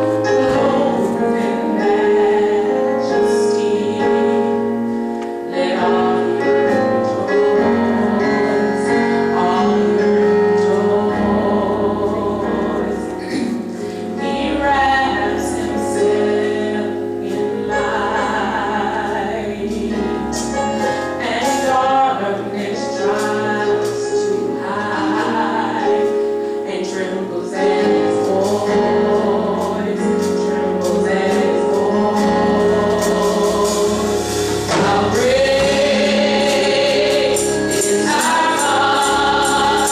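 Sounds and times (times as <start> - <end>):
gospel choir singing: 0.0 - 39.9
instrumental accompaniment: 0.0 - 39.9.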